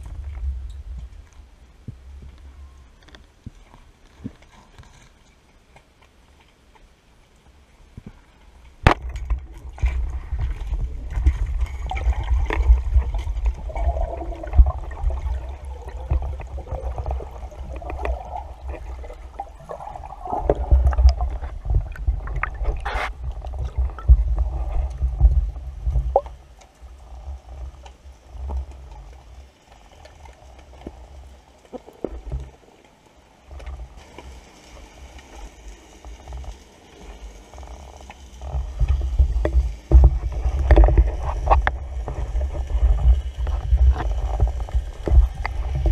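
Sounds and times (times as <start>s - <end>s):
underwater rumble of moving water: 0.0s - 6.4s, 7.1s - 45.9s.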